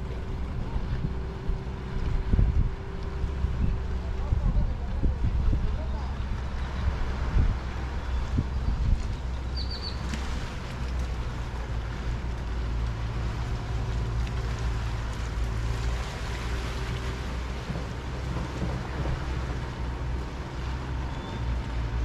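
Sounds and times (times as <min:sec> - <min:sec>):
continuous low rumble: 0:00.0 - 0:22.0
sea water washing along shore: 0:00.0 - 0:22.0.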